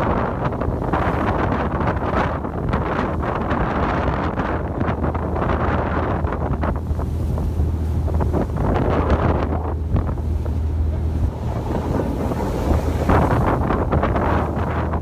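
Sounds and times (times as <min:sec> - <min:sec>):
boat engine droning: 0:00.0 - 0:15.0
sea water splashing: 0:00.0 - 0:15.0
wind buffeting microphone: 0:00.0 - 0:15.0.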